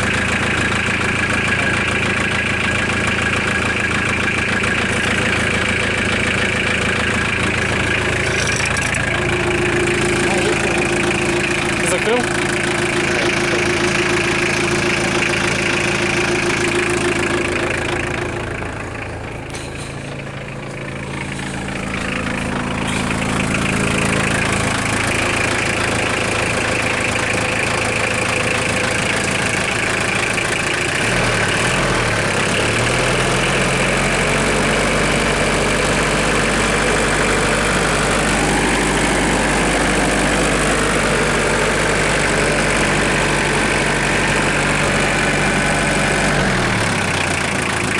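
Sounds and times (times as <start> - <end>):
truck engine idling with knock: 0.0 - 47.9.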